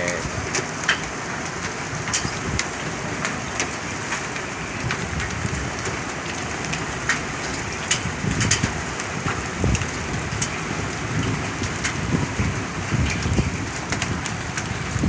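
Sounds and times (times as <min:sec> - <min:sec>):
hailstones clicking on hard surfaces: 0:00.0 - 0:15.0
rain and hail hissing: 0:00.0 - 0:15.0.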